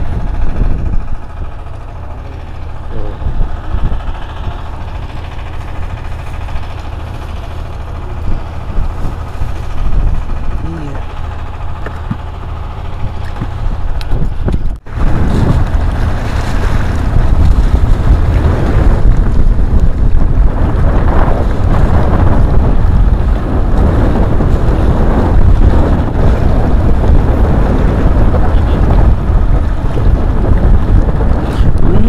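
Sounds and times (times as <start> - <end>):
sea washing against breakwater: 0.0 - 32.0
wind buffeting microphone: 0.0 - 32.0.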